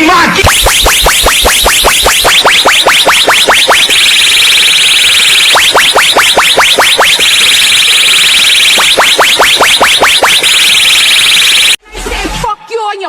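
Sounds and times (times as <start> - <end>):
rising synth chirps: 0.4 - 11.8
steady high synth buzz: 0.4 - 11.8.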